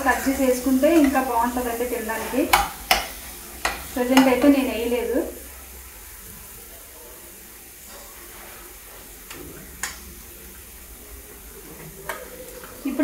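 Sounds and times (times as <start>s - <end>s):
sauce sizzling in a frying pan: 0.0s - 13.0s.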